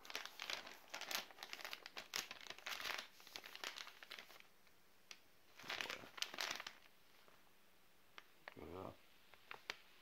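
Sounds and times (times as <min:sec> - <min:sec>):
plastic sleeve crinkling: 0:00.0 - 0:07.4, 0:08.2 - 0:10.0.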